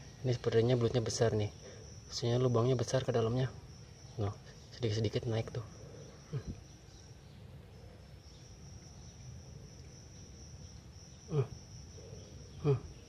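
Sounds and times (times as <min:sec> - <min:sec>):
faint background hiss: 0:00.0 - 0:13.0
high-pitched insect trill: 0:00.0 - 0:13.0.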